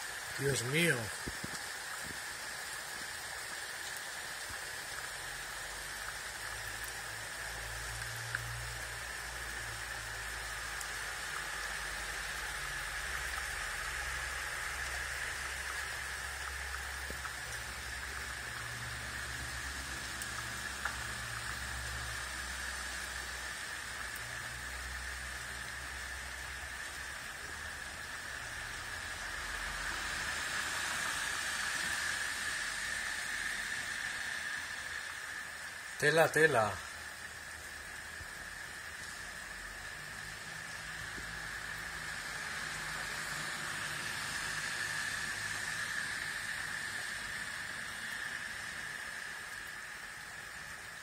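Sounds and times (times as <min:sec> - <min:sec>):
floodwater running: 0:00.0 - 0:51.0
heavy rain pouring: 0:00.0 - 0:51.0.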